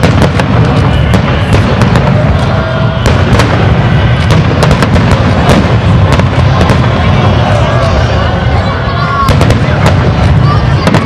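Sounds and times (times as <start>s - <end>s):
firework sharp reports: 0.0s - 11.0s
fireworks booming: 0.0s - 11.0s.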